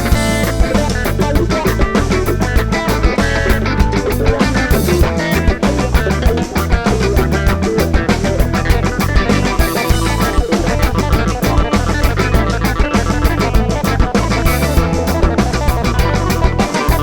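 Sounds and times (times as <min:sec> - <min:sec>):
bass guitar: 0:00.0 - 0:17.0
drum kit beat: 0:00.0 - 0:17.0
electric guitars: 0:00.0 - 0:17.0.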